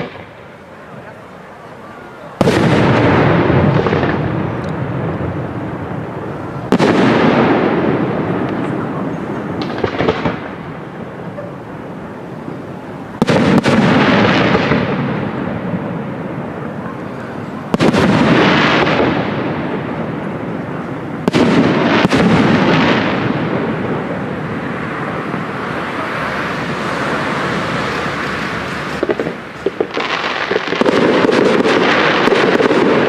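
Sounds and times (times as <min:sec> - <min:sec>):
firework bangs with rolling rumble: 0:00.0 - 0:01.3, 0:02.2 - 0:33.0.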